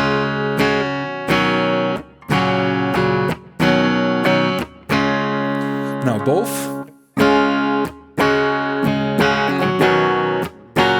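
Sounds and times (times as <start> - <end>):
clean electric guitar chords: 0.0 - 10.9.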